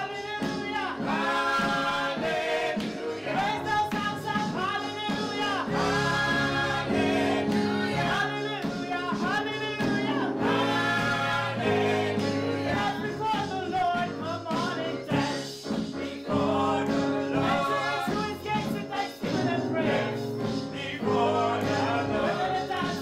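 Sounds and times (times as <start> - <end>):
group singing gospel song: 0.0 - 23.0
sustained instrumental backing: 0.0 - 23.0.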